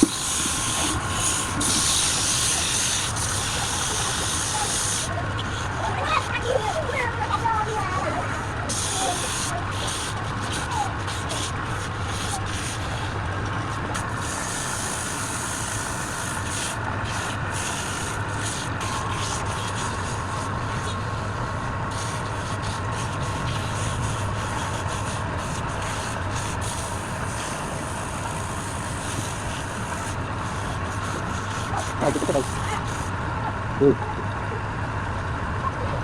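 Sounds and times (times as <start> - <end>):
hiss of spinning workpiece: 0.0 - 7.8, 8.4 - 13.2, 13.9 - 33.2
lathe motor humming: 0.0 - 35.7.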